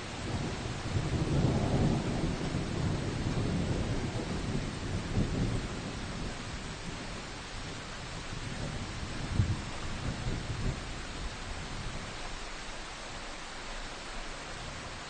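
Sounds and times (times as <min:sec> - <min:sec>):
rain falling in a forest: 0:00.0 - 0:15.0.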